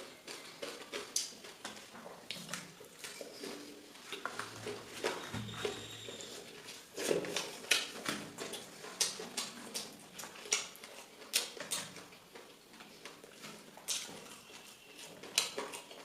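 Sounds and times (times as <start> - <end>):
person chewing and lip-smacking: 0.0 - 16.0.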